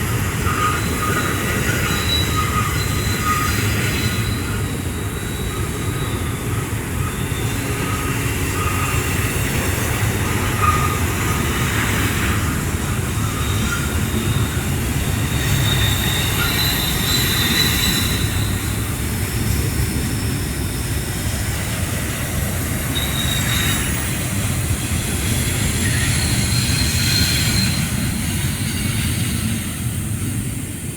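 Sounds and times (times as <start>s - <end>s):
high wheel squeals: 0.0s - 30.2s
freight train rumbling on rails: 0.0s - 30.9s.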